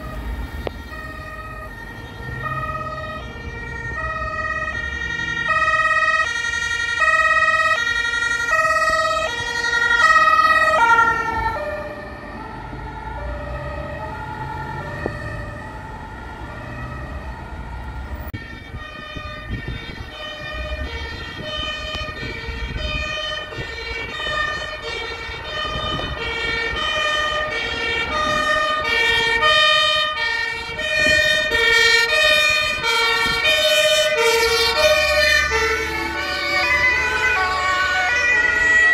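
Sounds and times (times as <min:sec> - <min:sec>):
two-tone emergency sirens: 0:00.0 - 0:38.9
vehicle engines rumbling: 0:00.0 - 0:38.9.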